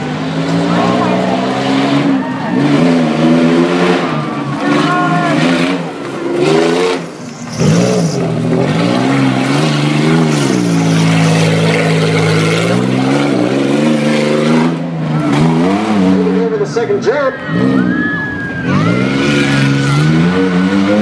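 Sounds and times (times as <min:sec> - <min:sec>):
pickup truck engine revving: 0:00.0 - 0:21.0.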